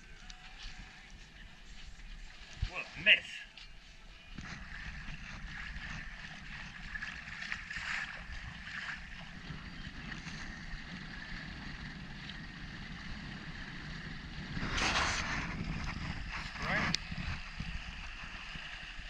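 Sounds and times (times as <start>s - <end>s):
water rushing along hull: 0.0s - 19.0s
wind noise on microphone: 0.0s - 19.0s.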